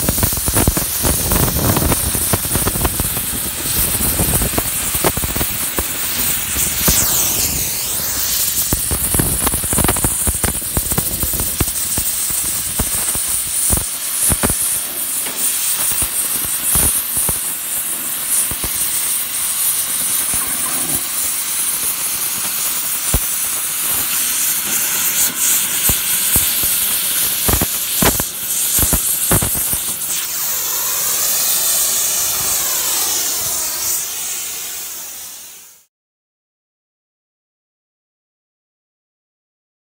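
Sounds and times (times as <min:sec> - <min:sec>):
sparks crackling and popping: 0:00.0 - 0:35.8
cutting torch hissing: 0:00.0 - 0:35.9.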